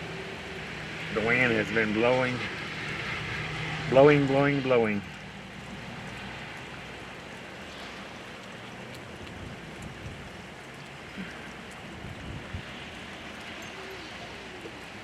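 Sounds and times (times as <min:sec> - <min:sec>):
rain falling in wind: 0:00.0 - 0:15.0.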